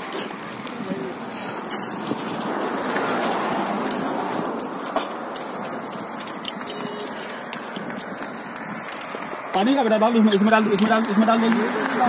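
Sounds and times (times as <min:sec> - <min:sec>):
vehicle passing on highway: 0:00.0 - 0:12.0.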